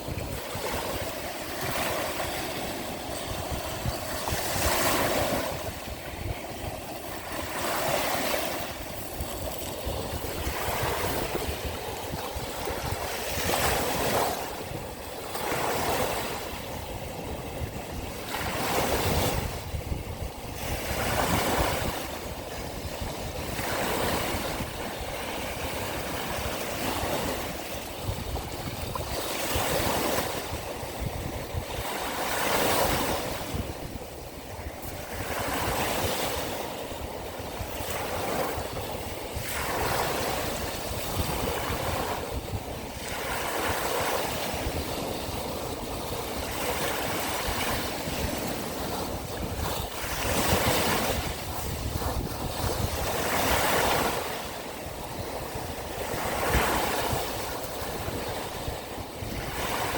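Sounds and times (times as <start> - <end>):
waves washing in: 0.0 - 59.9.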